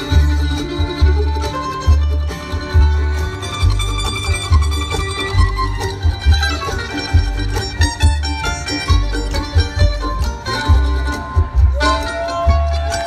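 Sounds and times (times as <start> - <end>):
live bluegrass band playing: 0.0 - 13.0
upright bass thumping: 0.0 - 13.0.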